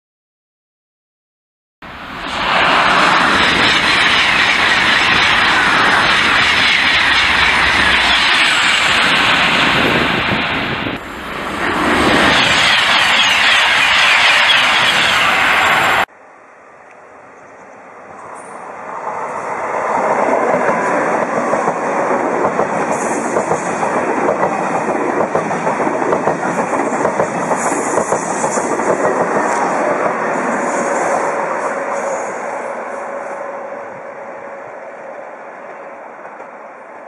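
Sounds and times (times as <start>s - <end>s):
high-speed train rushing past: 1.8s - 37.0s.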